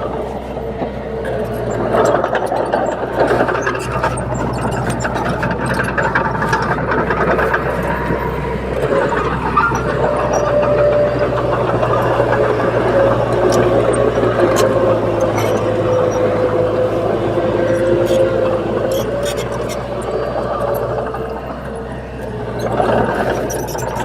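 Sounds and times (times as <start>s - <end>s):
bulldozer diesel engine running: 0.0s - 24.0s
clanks and rattles: 0.5s - 24.0s.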